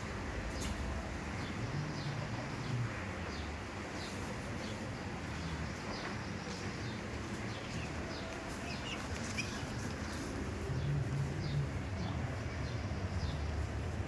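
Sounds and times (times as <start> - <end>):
small birds chirping: 1.4 - 13.6.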